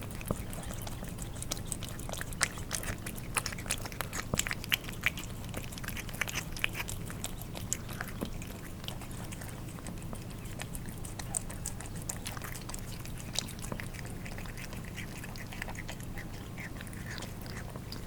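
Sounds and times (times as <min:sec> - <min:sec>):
cats eating wet food: 0:00.0 - 0:18.0.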